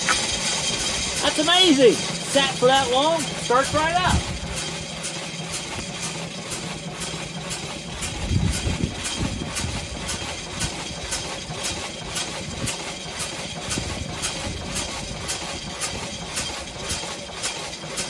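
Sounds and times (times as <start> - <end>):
single-cylinder engine idling: 0.0 - 18.0.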